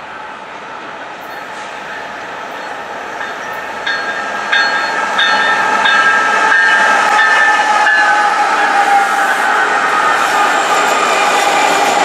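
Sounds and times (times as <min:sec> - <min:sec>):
diesel locomotives approaching: 0:00.0 - 0:12.0.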